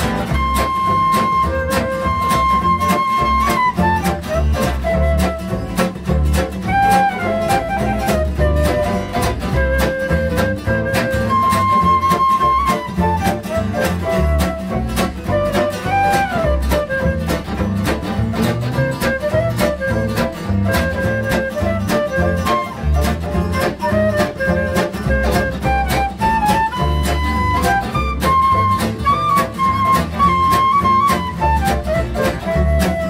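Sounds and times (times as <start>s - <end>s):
guitar strumming: 0.0s - 33.0s
lead melody with sliding notes: 0.0s - 33.0s
upright bass: 0.0s - 33.0s.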